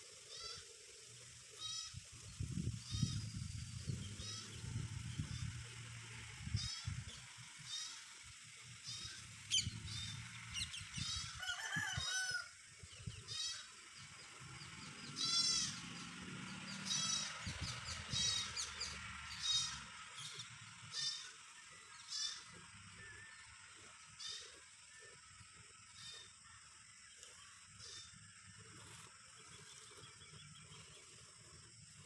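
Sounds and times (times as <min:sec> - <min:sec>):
birds chirping: 0:00.3 - 0:32.0.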